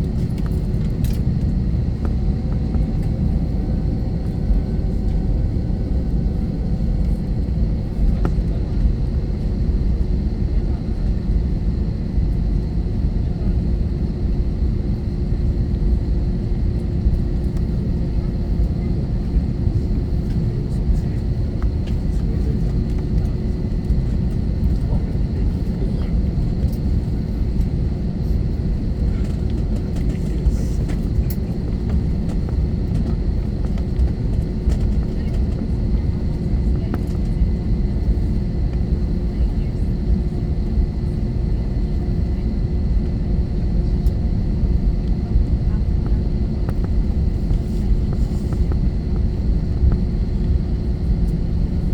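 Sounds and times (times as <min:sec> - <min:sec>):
airplane cabin rumble: 0:00.0 - 0:51.9
constant low hum: 0:00.0 - 0:51.9.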